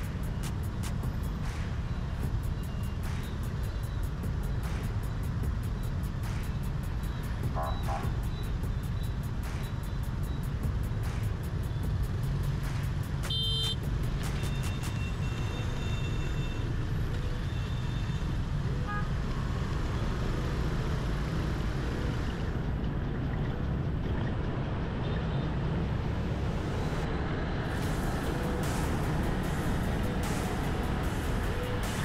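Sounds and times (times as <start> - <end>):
traffic and road rumble: 0.0 - 32.0.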